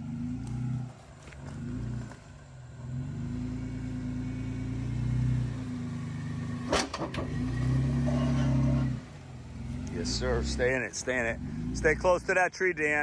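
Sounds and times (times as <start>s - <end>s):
car engine under throttle: 0.0s - 13.0s.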